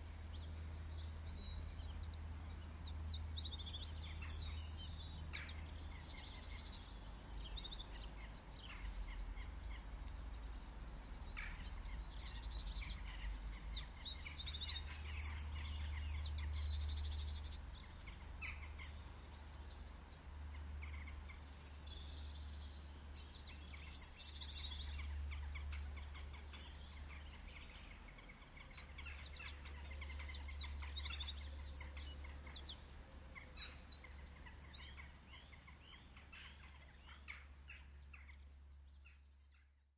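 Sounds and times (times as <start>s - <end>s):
birds chirping in high trills: 0.0s - 39.9s.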